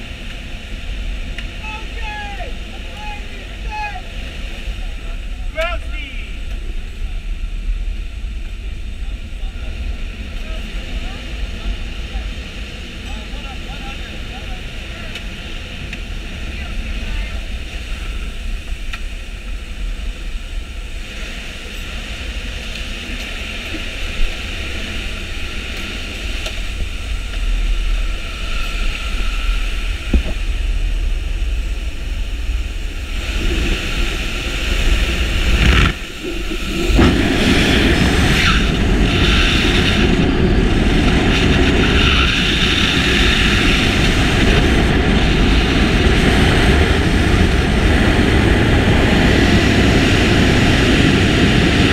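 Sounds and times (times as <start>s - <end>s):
plane engines droning in cabin: 0.0s - 51.9s
rushing wind buffeting camera: 0.0s - 51.9s.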